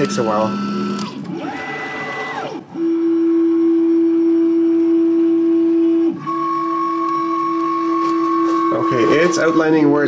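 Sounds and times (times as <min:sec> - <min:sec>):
stepper motors whining: 0:00.0 - 0:10.0.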